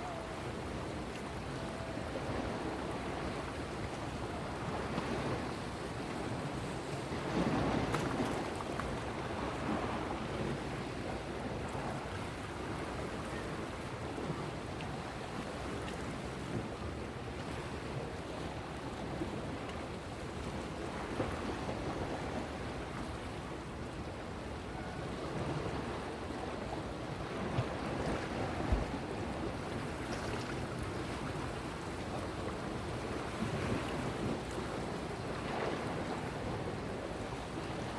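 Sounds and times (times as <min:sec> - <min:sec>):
rush of moving water: 0:00.0 - 0:37.9.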